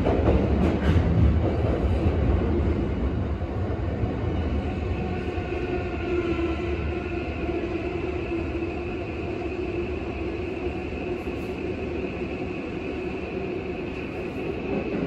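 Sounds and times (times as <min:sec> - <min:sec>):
train wheel and track noise: 0:00.0 - 0:15.0.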